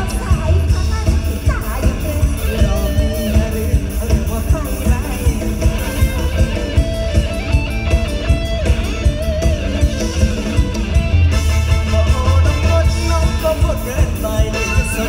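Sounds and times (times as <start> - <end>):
loud live band music: 0.0 - 15.0
steady drum beat: 0.0 - 15.0.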